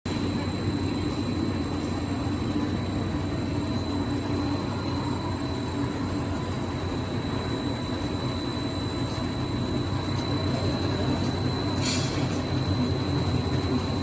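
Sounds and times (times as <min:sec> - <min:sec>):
extruder machine droning: 0:00.1 - 0:14.0
thin high whine: 0:00.1 - 0:14.0.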